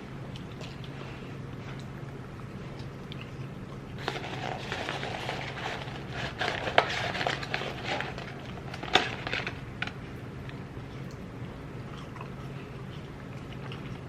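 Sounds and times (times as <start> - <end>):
crackling and clicking while eating: 0.0 - 14.0.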